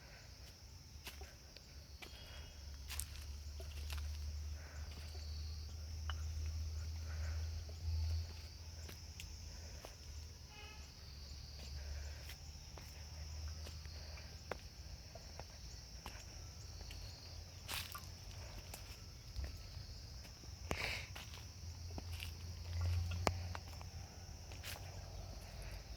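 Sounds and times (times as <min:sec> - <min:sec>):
insects droning: 0:00.0 - 0:25.9.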